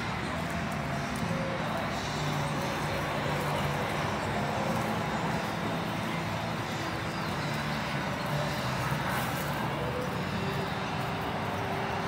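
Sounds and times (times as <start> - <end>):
low mechanical hum: 0.0 - 12.0
outdoor background noise: 0.0 - 12.0.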